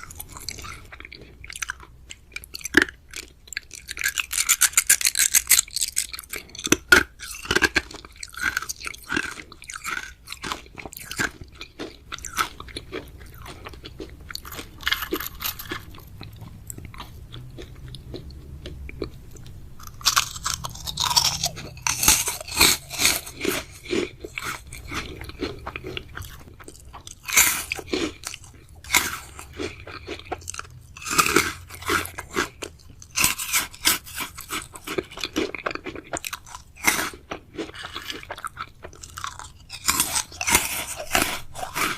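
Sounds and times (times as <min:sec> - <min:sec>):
crisp crackling and clicks: 0:00.0 - 0:37.2
chewing and crunching sweets: 0:00.0 - 0:41.9.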